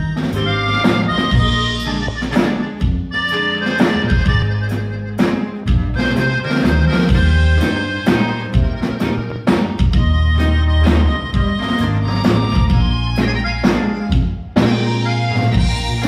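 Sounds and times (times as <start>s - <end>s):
accordion melody: 0.0s - 16.0s
acoustic guitar: 0.0s - 16.0s
drum kit beats: 0.0s - 16.0s
electric bass: 0.0s - 16.0s.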